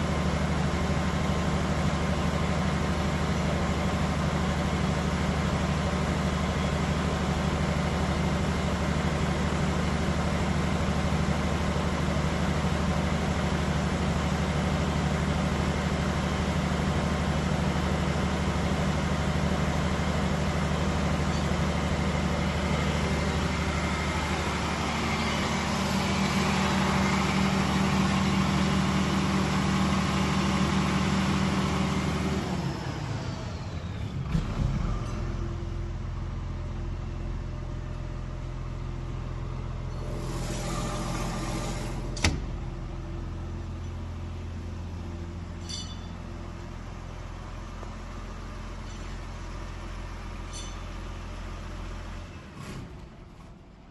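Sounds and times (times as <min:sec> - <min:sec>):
diesel generator running: 0:00.0 - 0:53.9.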